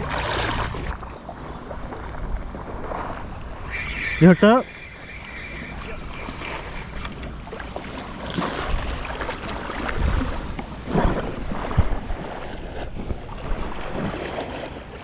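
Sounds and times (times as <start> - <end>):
moving water: 0.0 - 15.0
wind buffeting microphone: 0.0 - 15.0.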